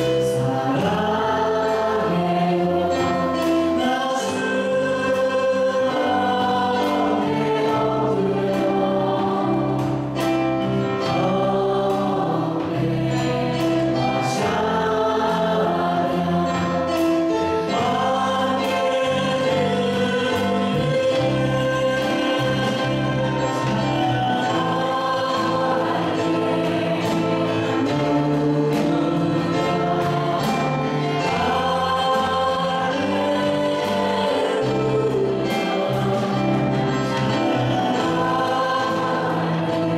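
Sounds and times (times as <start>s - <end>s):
drum kit with cymbals: 0.0s - 39.9s
group singing worship song: 0.0s - 39.9s
keyboards: 0.0s - 39.9s.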